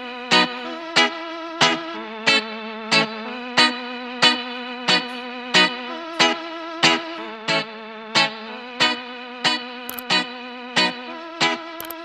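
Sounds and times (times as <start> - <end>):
guitar music with effects: 0.0 - 12.0.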